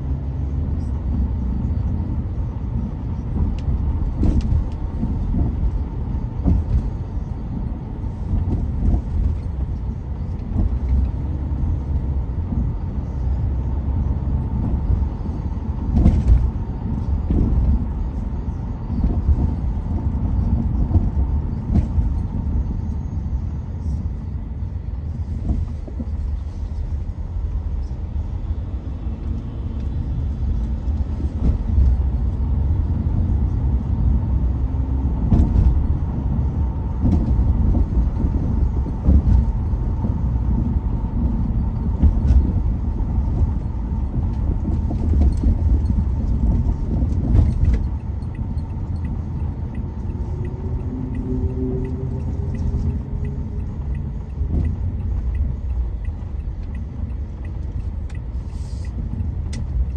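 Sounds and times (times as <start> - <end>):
tyres and engine rumble: 0.0 - 59.9.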